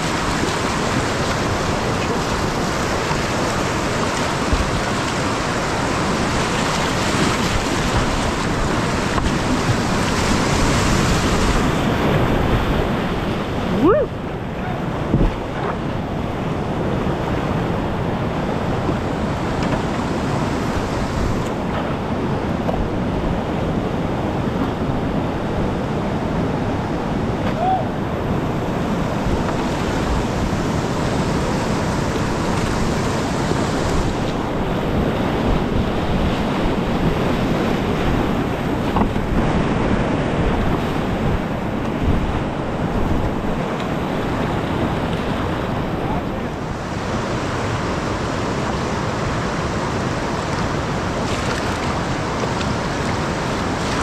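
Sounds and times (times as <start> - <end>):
whitewater rapids rushing: 0.0 - 54.0.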